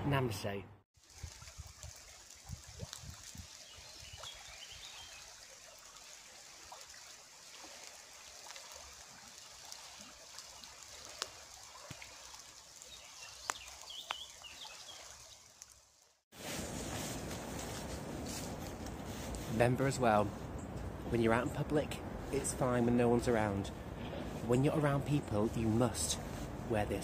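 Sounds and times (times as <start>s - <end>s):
stream trickling: 1.0s - 27.0s.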